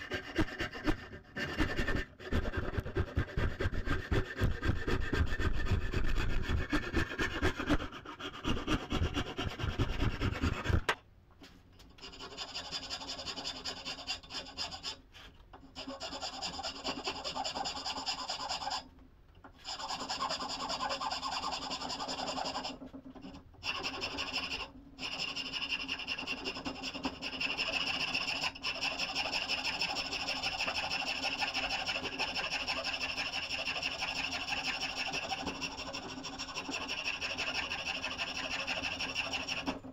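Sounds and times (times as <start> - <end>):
rasping on wooden handle: 0.0 - 11.0, 12.0 - 18.9, 19.6 - 39.9.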